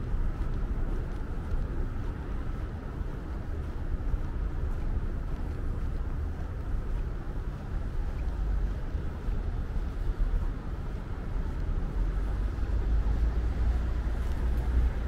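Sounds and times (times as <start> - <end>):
deep rumble of road traffic: 0.0 - 15.0.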